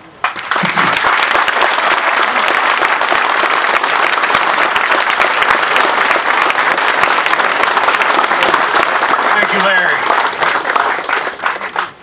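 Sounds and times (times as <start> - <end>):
crowd applauding: 0.2 - 12.0.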